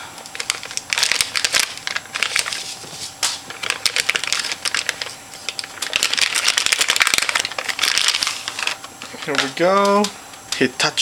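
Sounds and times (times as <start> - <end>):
plastic packaging crinkling: 0.2 - 10.1.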